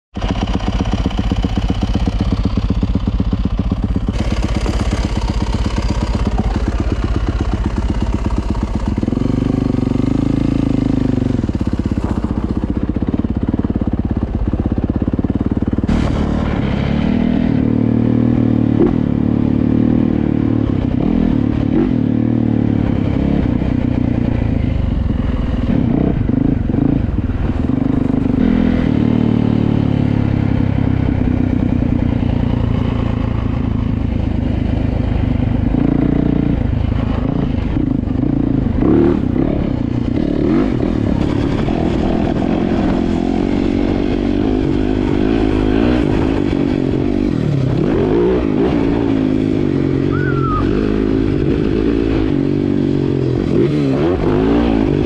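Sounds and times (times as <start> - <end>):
motorcycle engine: 0.1 - 55.0.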